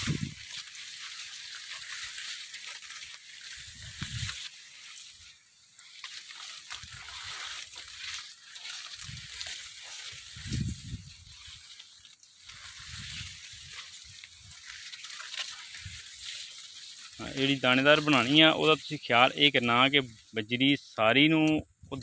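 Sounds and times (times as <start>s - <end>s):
maize leaves rustling: 0.0s - 22.0s
steady hiss: 0.0s - 22.0s.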